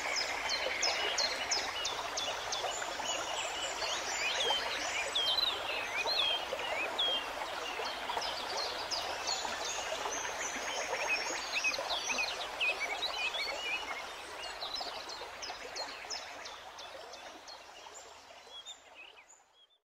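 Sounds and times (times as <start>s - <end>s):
running water: 0.0s - 18.9s.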